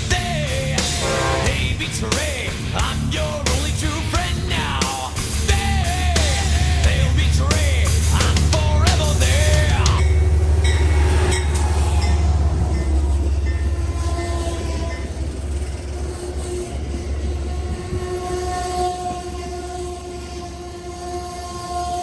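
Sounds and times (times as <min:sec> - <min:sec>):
train locomotive and wheel rumble: 0:00.0 - 0:22.0.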